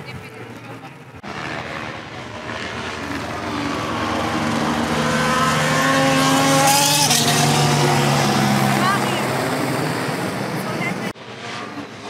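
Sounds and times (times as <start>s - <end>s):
racing car engine accelerating: 1.2s - 12.0s.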